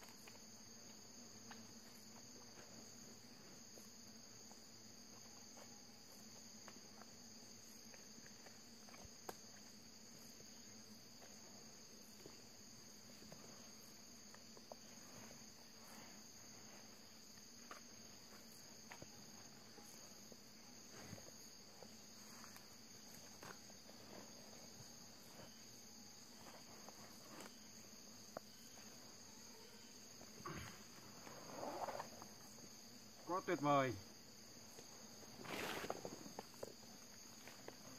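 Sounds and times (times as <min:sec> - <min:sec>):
insects trilling: 0:00.0 - 0:37.9.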